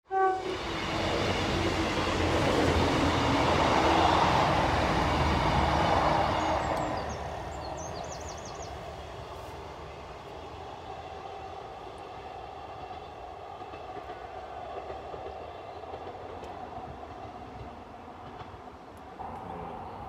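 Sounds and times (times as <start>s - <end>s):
diesel train passing: 0.1s - 20.0s.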